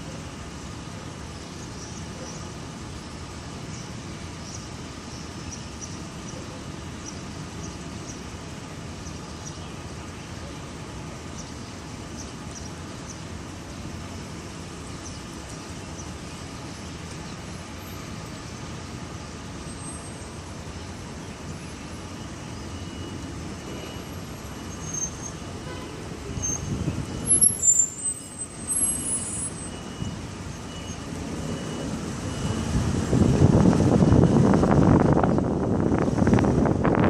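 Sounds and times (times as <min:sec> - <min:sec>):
city traffic rumble: 0:00.0 - 0:37.0.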